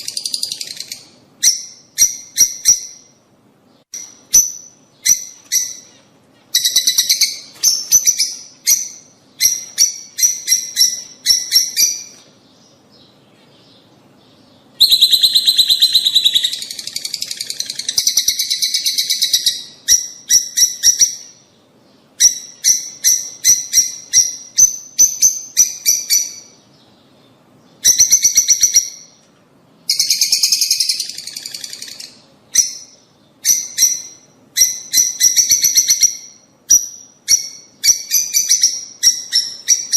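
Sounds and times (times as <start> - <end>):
lovebirds chirping shrilly: 3.8 - 29.2, 29.9 - 39.9.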